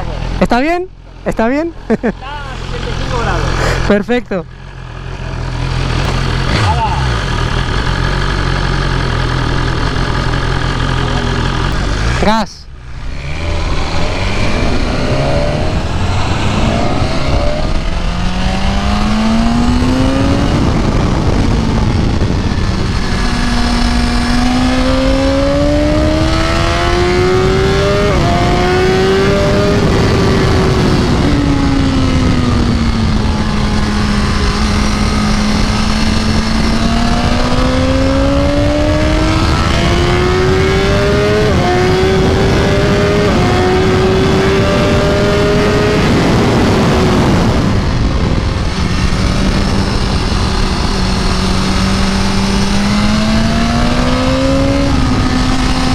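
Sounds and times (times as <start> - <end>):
motorcycle engine revving: 0.0 - 55.9
wind and road noise: 0.0 - 55.9.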